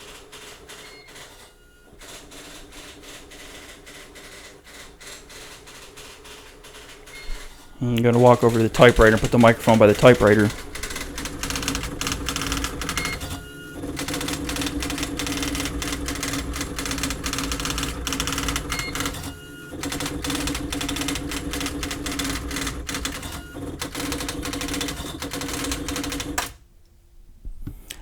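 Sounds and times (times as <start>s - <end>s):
typewriter print-hammer strikes: 0.0s - 26.6s.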